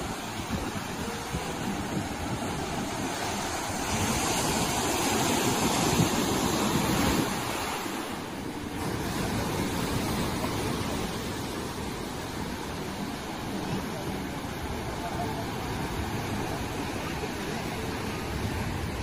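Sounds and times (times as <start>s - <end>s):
surf washing over rocks: 0.0s - 19.0s.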